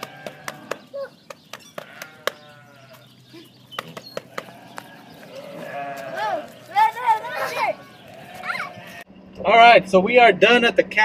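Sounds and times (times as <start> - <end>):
young goat bleating: 0.0 - 9.1.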